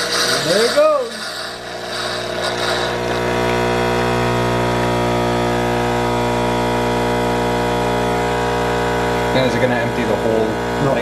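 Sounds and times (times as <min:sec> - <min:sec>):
espresso machine pump humming: 0:00.0 - 0:11.0.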